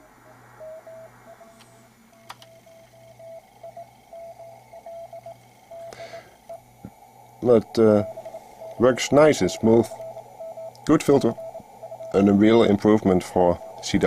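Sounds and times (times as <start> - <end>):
morse code tone: 0.0 - 6.7, 7.4 - 14.0
radio band hiss: 0.0 - 14.0.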